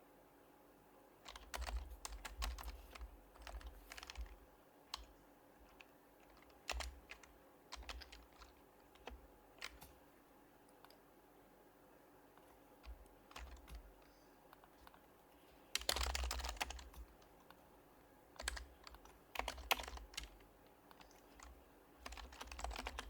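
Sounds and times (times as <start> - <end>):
quiet keyboard typing: 1.2 - 11.1, 12.3 - 23.0.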